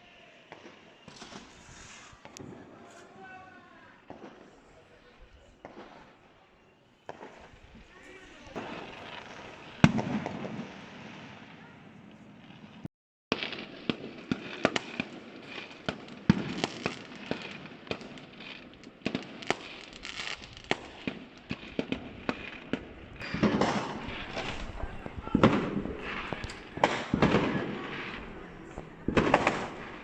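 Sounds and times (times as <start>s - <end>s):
fireworks cracking and banging: 0.1s - 6.4s, 7.0s - 30.0s.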